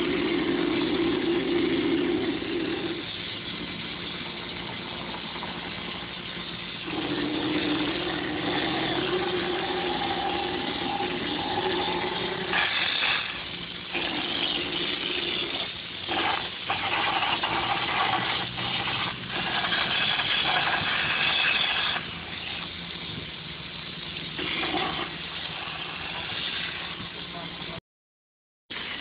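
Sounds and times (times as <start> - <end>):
air compressor humming: 0.0 - 27.8
texture spray gun hissing: 0.0 - 27.8.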